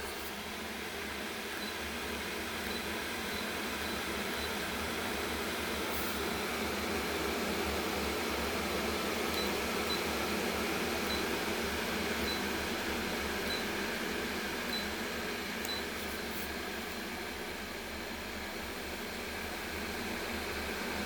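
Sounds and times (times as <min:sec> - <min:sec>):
electric kettle heating water: 0:00.0 - 0:21.0.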